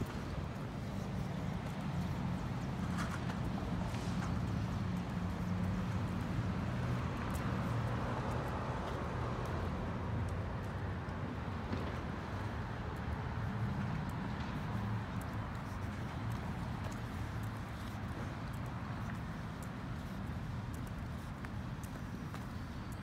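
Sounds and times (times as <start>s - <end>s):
footsteps on concrete: 0.0s - 23.0s
street traffic rumble: 0.0s - 23.0s.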